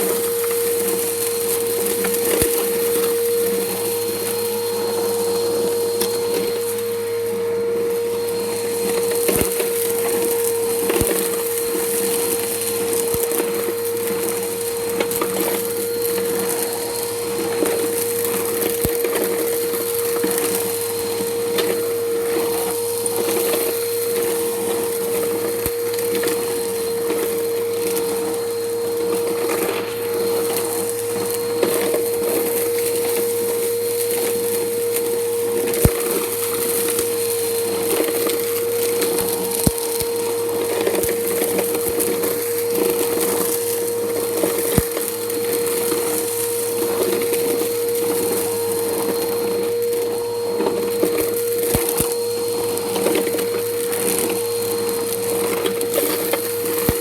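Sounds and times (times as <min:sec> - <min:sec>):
debris crackling in vacuum: 0:00.0 - 0:57.0
vacuum cleaner motor whine: 0:00.0 - 0:57.0.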